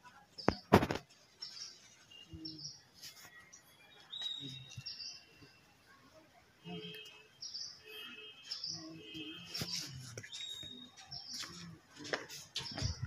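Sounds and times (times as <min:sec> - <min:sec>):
birds chirping: 0:00.1 - 0:05.9, 0:06.6 - 0:13.0.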